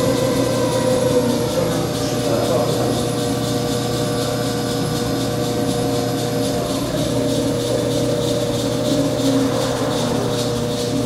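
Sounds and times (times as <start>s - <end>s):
electric motor and gear hum: 0.0s - 11.0s.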